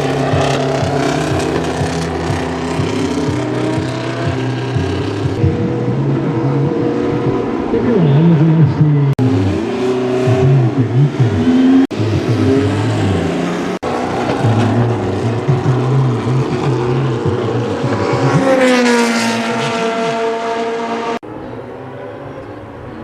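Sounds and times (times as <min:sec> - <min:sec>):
racing car engines at high revs: 0:00.0 - 0:23.0.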